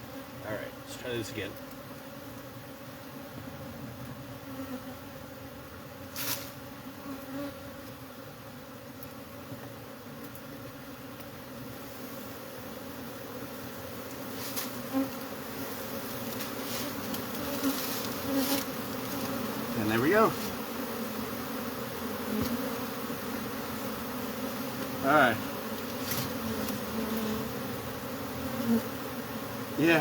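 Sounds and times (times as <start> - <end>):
angry bees buzzing: 0.0 - 30.0.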